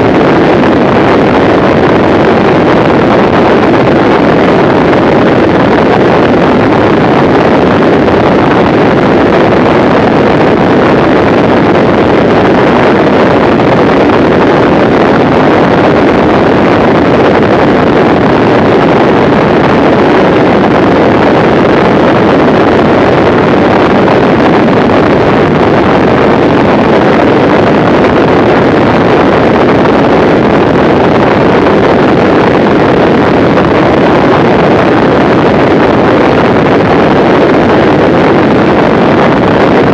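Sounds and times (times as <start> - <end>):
rushing air: 0.0 - 39.9.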